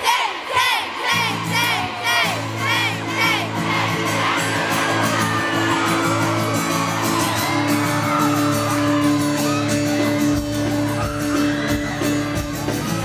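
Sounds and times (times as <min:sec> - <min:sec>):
crowd screaming and whooping: 0:00.0 - 0:13.0
live band music: 0:01.3 - 0:13.0.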